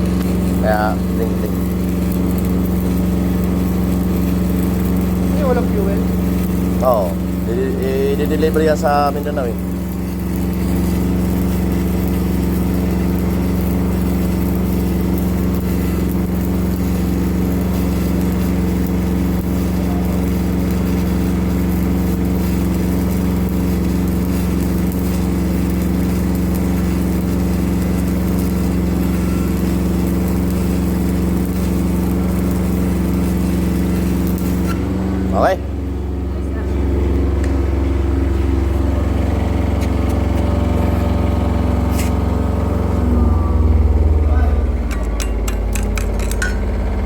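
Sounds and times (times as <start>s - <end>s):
welding generator engine running: 0.0s - 47.0s.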